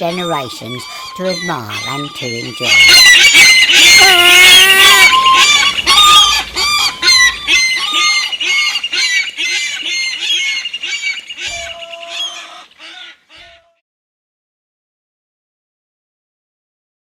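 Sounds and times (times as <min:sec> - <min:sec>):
seagulls squawking: 0:00.0 - 0:13.8.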